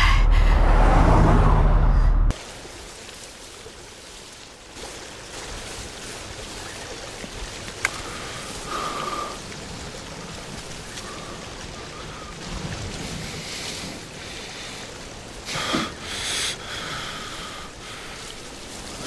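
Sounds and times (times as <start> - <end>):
outdoor background hiss: 1.6 - 19.0.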